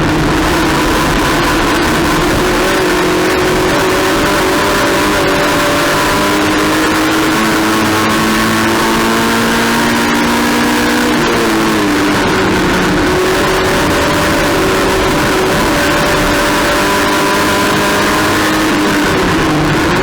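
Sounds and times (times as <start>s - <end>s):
race car engine revving: 0.0s - 20.0s
wind and road noise: 0.0s - 20.0s.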